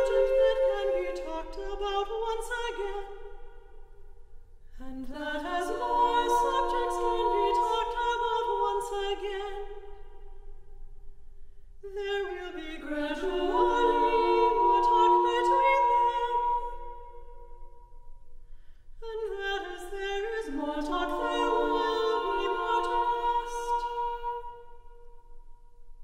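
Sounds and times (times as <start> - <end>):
women singing a cappella: 0.0 - 3.8, 4.8 - 10.3, 11.8 - 17.4, 19.0 - 25.2.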